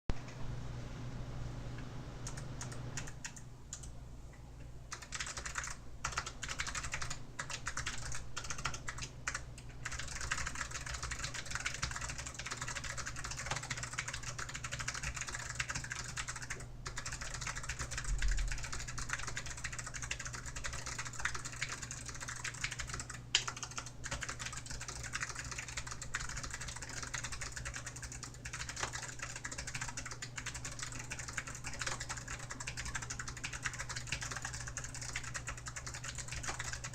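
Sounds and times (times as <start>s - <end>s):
fast typing on mechanical keyboard: 2.3s - 3.9s, 4.9s - 36.9s.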